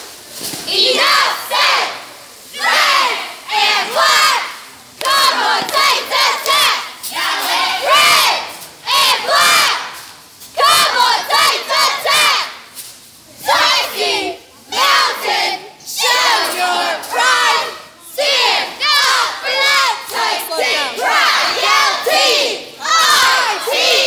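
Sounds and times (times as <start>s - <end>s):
girls chanting a cheer: 0.6s - 12.7s, 13.4s - 24.0s.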